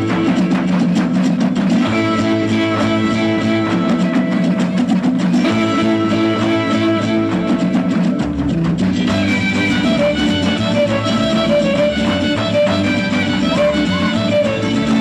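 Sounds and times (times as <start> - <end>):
folk dance music with guitars: 0.0 - 15.0.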